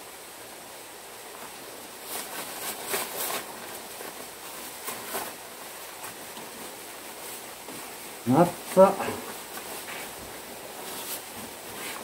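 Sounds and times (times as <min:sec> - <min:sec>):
steady background hiss: 0:00.0 - 0:12.0
glove and jacket fabric rustling: 0:01.2 - 0:12.0.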